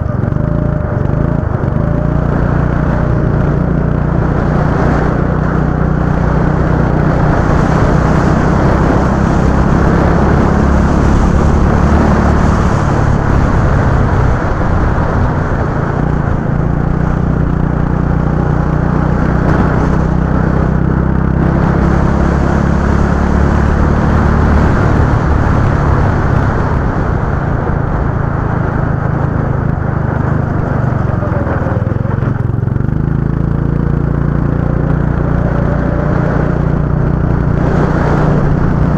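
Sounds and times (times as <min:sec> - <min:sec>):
go-kart engine running: 0:00.0 - 0:38.9.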